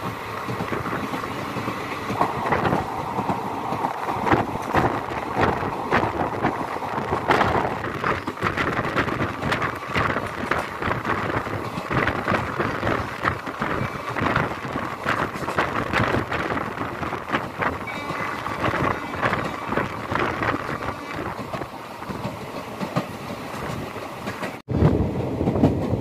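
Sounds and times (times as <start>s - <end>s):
train rushing noise: 0.0s - 26.0s
wheel clacks and rattles: 0.0s - 26.0s
wind noise on microphone: 0.5s - 22.4s, 23.1s - 26.0s.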